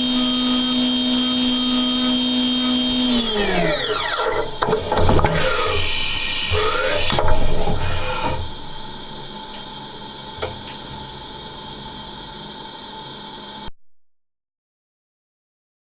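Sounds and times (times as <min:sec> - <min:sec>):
machine tool hum and whine: 0:00.0 - 0:13.7.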